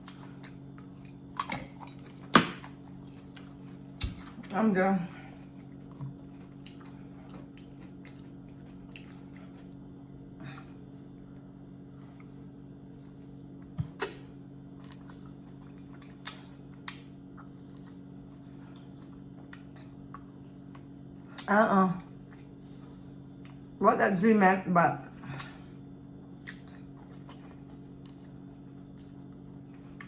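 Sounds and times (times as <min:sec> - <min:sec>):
quiet chewing: 0:00.0 - 0:23.8, 0:25.3 - 0:30.0.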